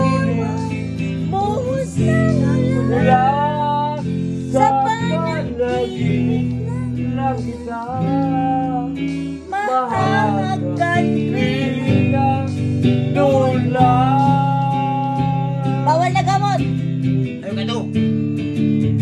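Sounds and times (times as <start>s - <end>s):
man singing: 0.0s - 18.0s
electric guitar chords: 0.0s - 19.0s.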